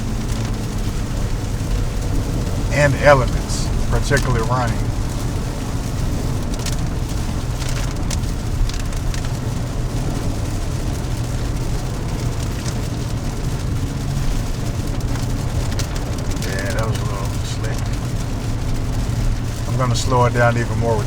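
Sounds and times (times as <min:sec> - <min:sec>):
engine and tyres on wet road: 0:00.0 - 0:21.0
raindrops tapping on car body: 0:00.0 - 0:21.0.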